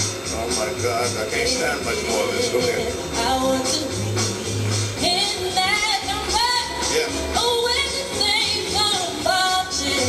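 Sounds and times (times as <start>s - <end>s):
song from television speaker: 0.0s - 10.0s.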